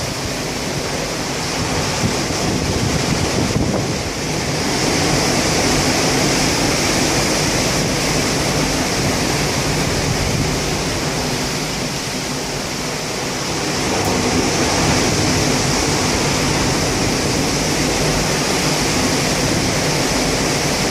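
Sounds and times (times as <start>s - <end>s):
surf breaking: 0.0s - 20.9s
wind: 0.0s - 20.9s.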